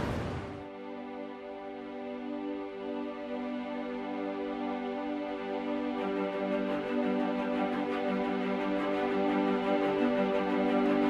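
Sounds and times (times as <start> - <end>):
soft sustained chords: 0.6 - 11.0.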